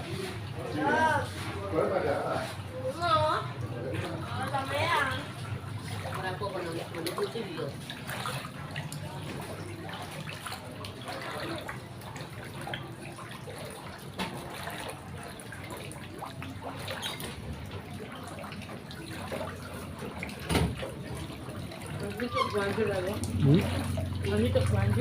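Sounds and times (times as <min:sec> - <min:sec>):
water rushing: 0:04.6 - 0:25.0.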